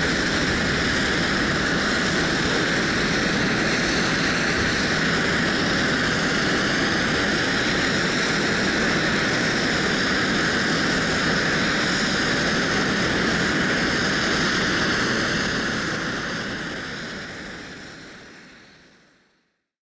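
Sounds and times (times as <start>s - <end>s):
jet airliner engine roar: 0.0s - 19.4s.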